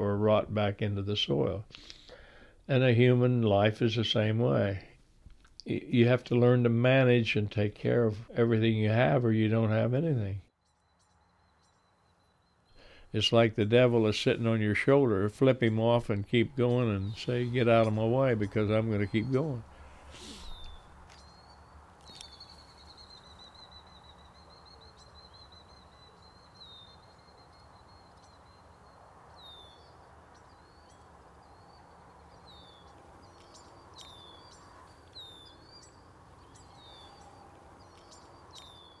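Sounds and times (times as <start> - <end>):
faint birdsong: 0.0 - 39.0.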